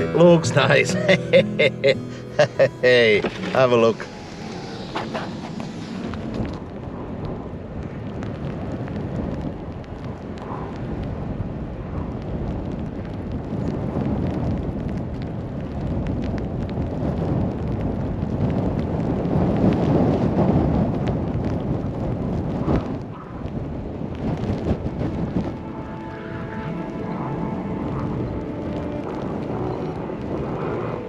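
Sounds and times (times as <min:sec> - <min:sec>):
wind gusting against microphone: 0:00.0 - 0:31.0.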